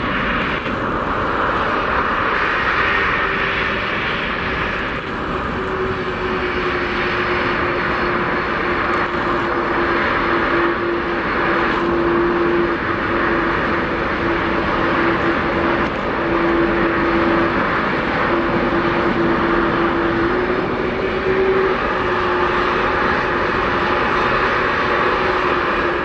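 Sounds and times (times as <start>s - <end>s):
jet engines in reverse thrust: 0.0s - 26.0s.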